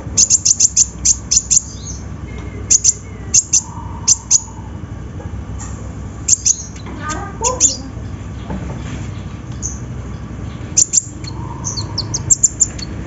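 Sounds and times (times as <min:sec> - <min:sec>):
sunbird high chip calls: 0:00.0 - 0:04.8, 0:06.2 - 0:08.5, 0:09.2 - 0:13.0.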